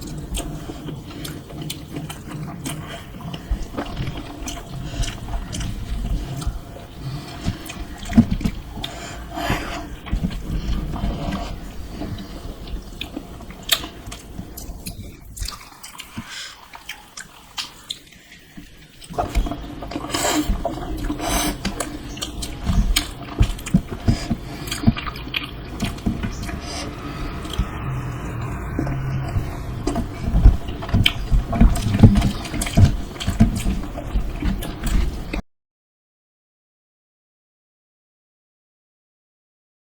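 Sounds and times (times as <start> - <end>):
person chewing food: 0.0 - 27.9, 28.6 - 35.4.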